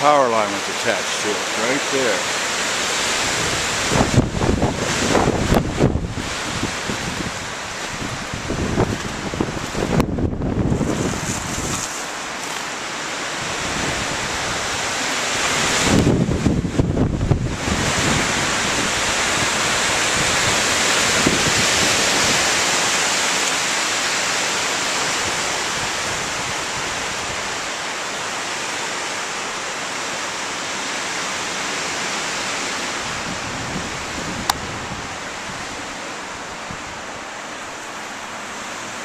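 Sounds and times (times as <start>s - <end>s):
wind through branches: 0.0s - 39.0s.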